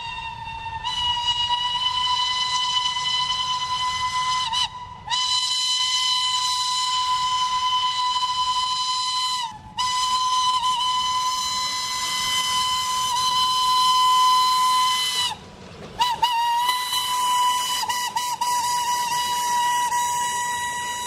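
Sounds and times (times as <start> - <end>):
steam locomotive whistle: 0.0 - 21.0.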